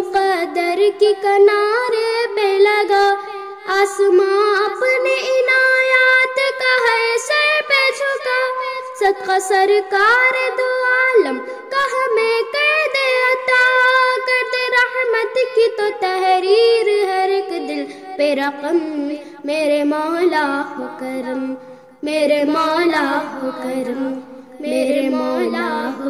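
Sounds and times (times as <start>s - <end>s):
girl singing devotional song: 0.0s - 26.0s.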